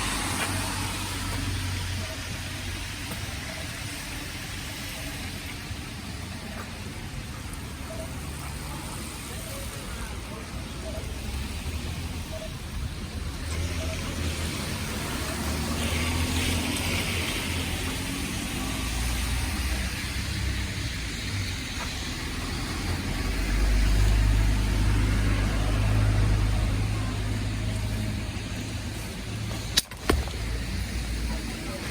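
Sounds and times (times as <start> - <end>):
cars passing: 0.0 - 31.9.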